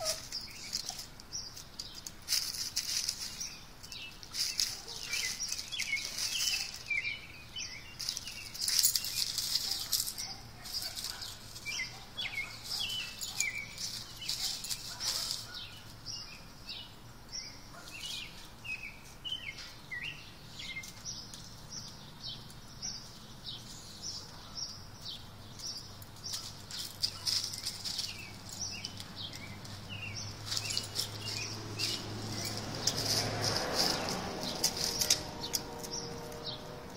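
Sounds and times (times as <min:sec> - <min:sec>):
dry leaves rustling: 0:00.0 - 0:36.9.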